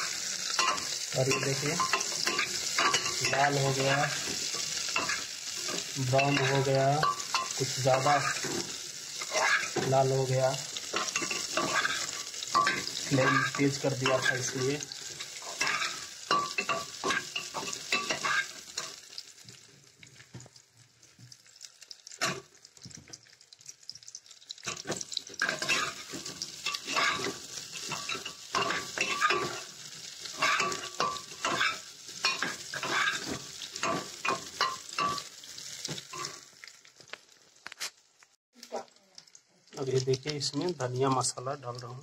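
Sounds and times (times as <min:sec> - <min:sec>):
frying sizzle: 0:00.0 - 0:42.0.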